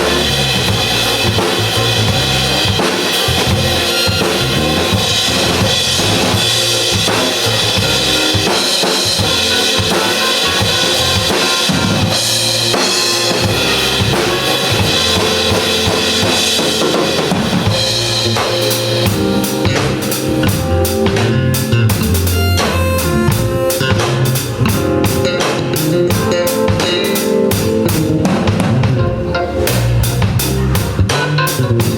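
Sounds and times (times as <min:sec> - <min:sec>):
live pop band playing: 0:00.0 - 0:31.9.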